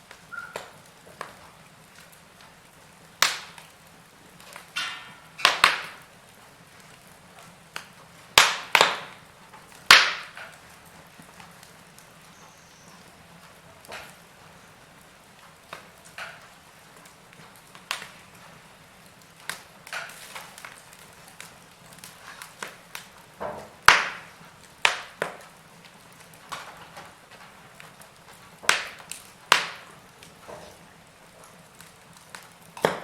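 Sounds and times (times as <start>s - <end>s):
sharp pops and snaps: 0.0s - 6.1s, 6.7s - 14.6s, 15.4s - 33.0s
logs crackling in fireplace: 0.0s - 33.0s.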